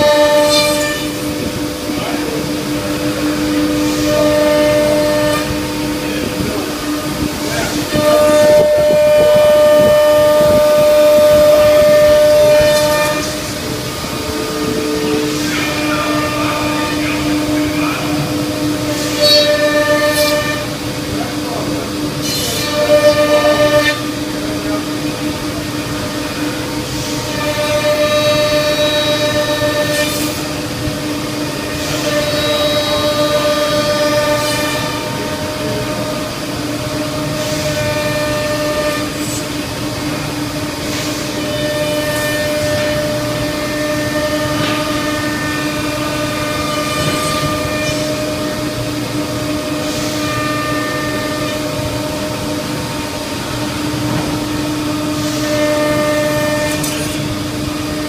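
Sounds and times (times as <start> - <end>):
rough machining noise: 0.0 - 58.0
router spindle whine: 0.0 - 58.0.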